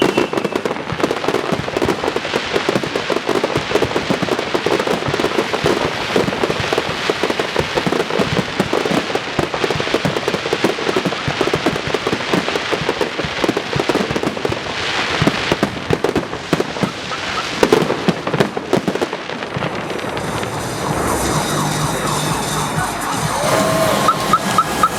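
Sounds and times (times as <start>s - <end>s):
fireworks crackling and bursting: 0.0s - 24.9s.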